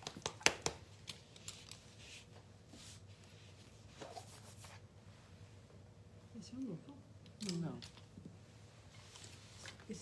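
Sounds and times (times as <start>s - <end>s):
faint rustles and ticks of handling: 1.0s - 5.8s, 6.4s - 10.0s.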